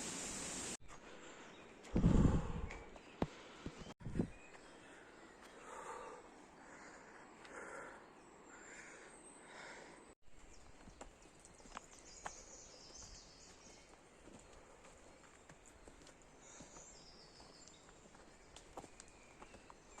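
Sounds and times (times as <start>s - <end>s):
forest ambience: 0.0s - 20.0s
footsteps on forest trail: 0.8s - 7.8s, 10.3s - 20.0s.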